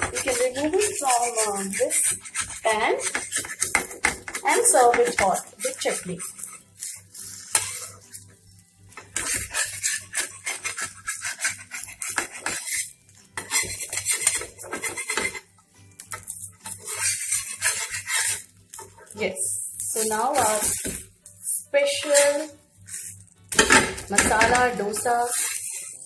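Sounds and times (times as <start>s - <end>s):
metal spatula scraping a pan: 0.0s - 26.0s.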